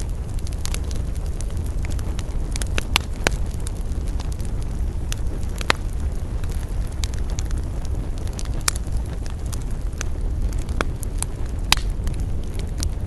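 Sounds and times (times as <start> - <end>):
campfire crackling and popping: 0.0 - 13.0
low rumble: 0.0 - 13.0.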